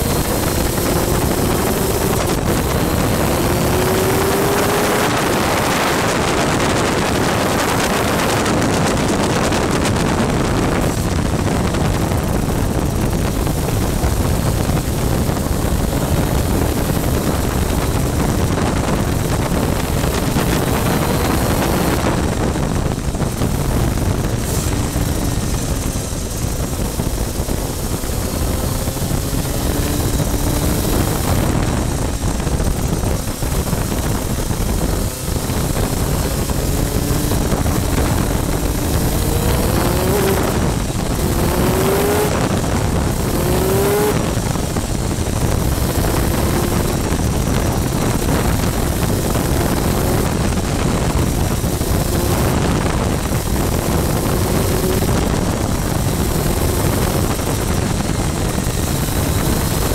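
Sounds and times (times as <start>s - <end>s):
kart engine at high revs: 0.0s - 59.9s
wind buffeting microphone: 0.0s - 59.9s.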